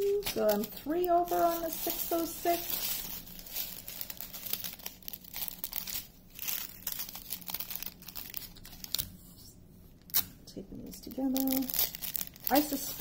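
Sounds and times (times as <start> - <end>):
plastic bags crinkling: 0.0 - 9.2, 10.9 - 13.0.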